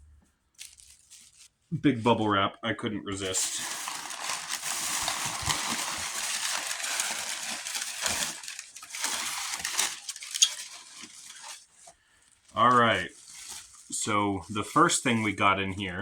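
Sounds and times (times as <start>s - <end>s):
bubble wrap crackling: 0.6s - 2.2s, 3.2s - 16.0s.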